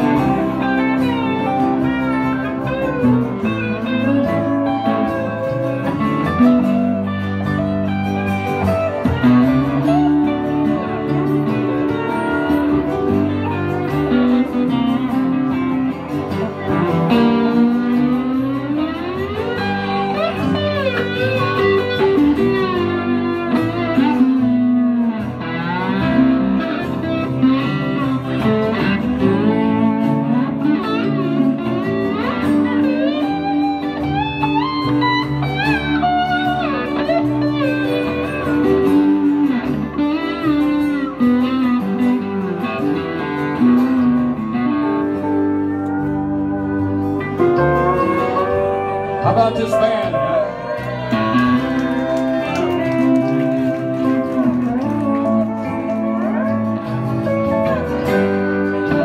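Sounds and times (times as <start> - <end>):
blues band playing: 0.0 - 59.0
sliding guitar lead line: 0.0 - 59.0.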